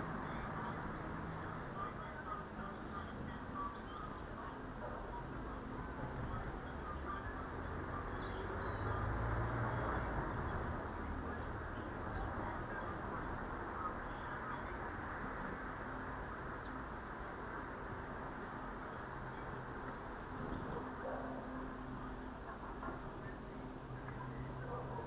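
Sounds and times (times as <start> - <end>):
garden birds chirping: 0.0 - 25.0.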